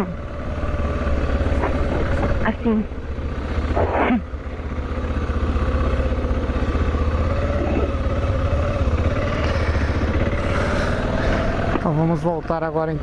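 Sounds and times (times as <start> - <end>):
motorcycle engine pulling away: 0.0 - 13.0.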